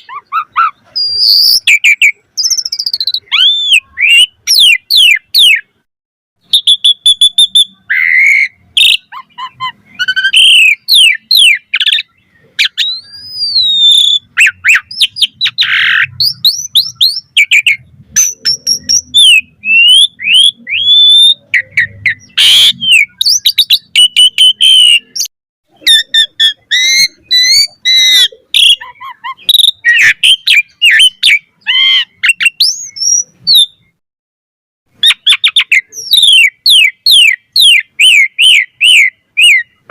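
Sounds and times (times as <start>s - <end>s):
starling singing varied whistles: 0.0s - 5.7s, 6.4s - 34.0s, 35.0s - 39.9s.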